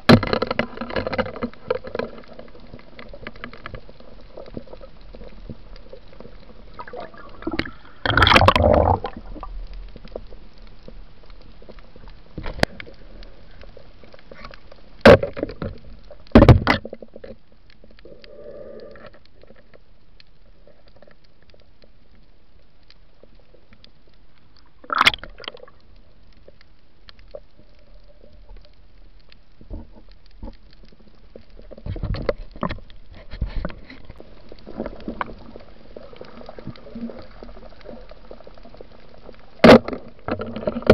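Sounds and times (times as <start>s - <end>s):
low underwater hiss: 1.4s - 16.3s, 17.0s - 40.3s.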